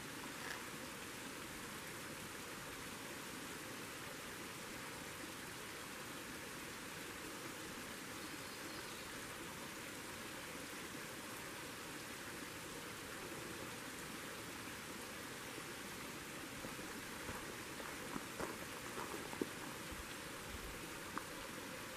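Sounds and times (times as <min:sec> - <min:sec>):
creek water rushing: 0:00.0 - 0:21.9.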